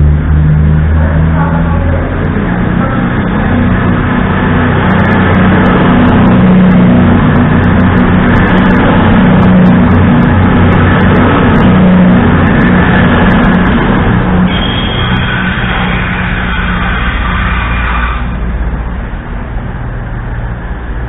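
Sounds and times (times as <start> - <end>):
diesel train engines droning: 0.0 - 21.0.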